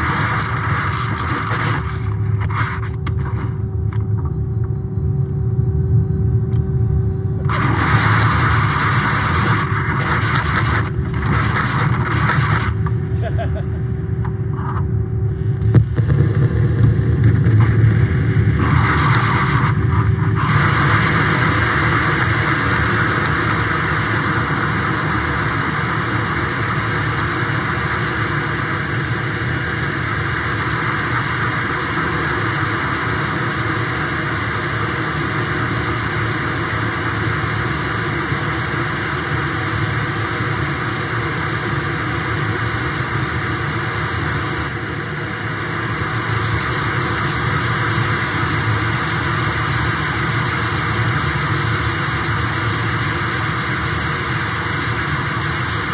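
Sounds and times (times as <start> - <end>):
dense electronic noise music: 0.0 - 55.9.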